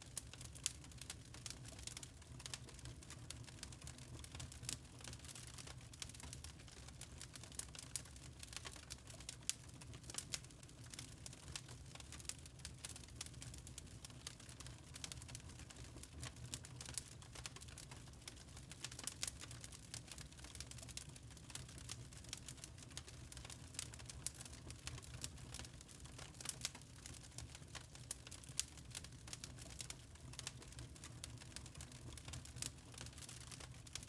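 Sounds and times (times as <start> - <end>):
charcoal crackling and popping: 0.0 - 34.0.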